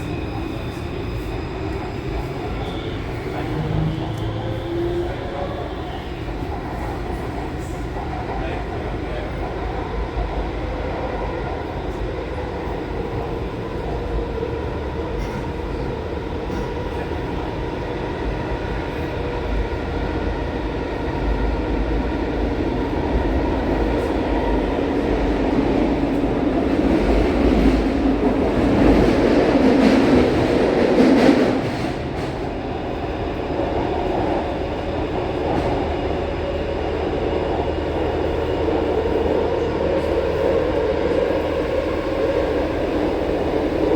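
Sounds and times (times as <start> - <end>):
electric train rumbling: 0.0 - 43.9.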